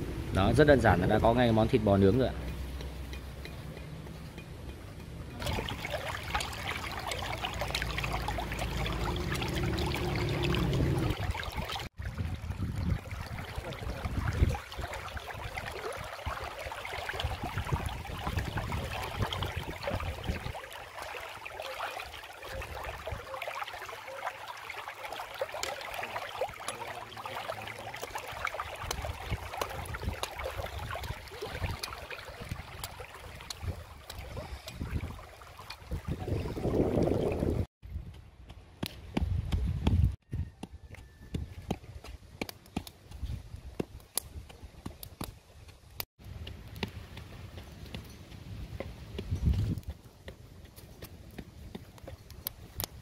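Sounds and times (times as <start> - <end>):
stream trickling over stones: 0.4 - 37.7, 42.4 - 53.0.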